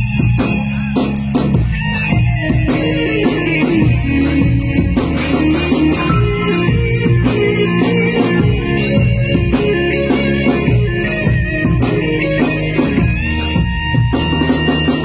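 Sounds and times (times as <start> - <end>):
guitar: 0.0 - 15.0
drum beat: 1.2 - 15.0.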